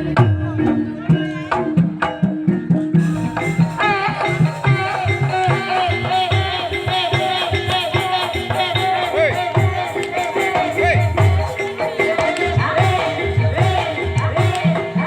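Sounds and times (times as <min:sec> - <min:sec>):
rattling percussion: 0:00.0 - 0:15.0
steady drum beat: 0:01.1 - 0:15.0.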